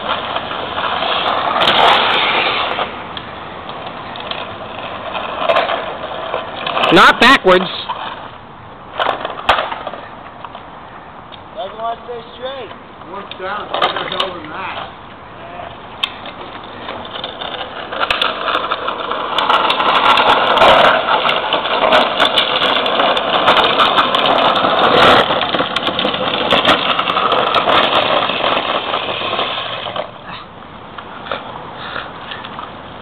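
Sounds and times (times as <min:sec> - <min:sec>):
plastic wheels rolling on asphalt: 0:00.0 - 0:33.0.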